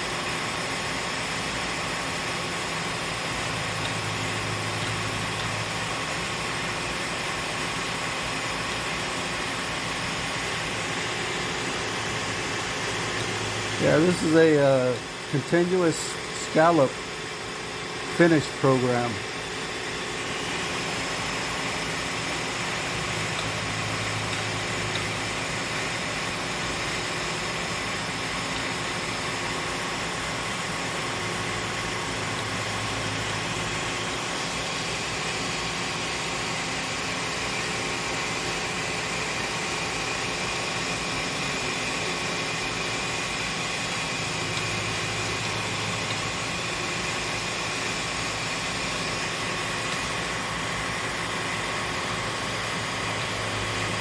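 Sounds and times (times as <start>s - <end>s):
low axis motor hum: 0.0s - 54.0s
milling machine spindle hum: 0.0s - 54.0s.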